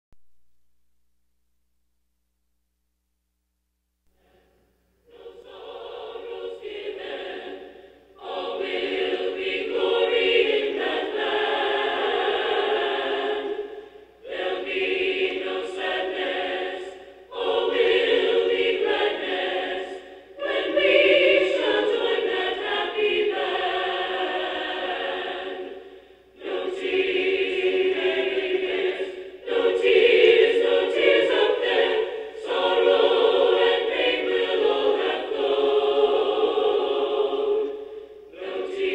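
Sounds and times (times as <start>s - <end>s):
group singing a hymn a cappella: 4.2s - 38.9s.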